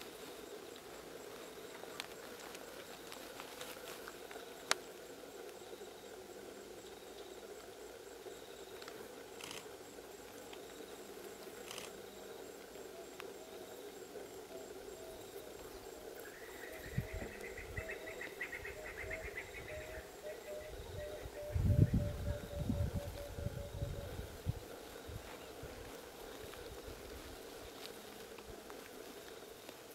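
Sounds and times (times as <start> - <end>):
insect trilling: 0.0 - 29.9.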